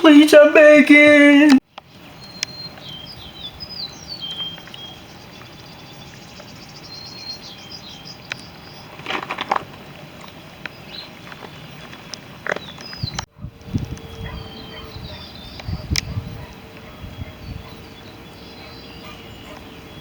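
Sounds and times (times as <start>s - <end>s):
small birds chirping and trilling: 1.7s - 20.0s.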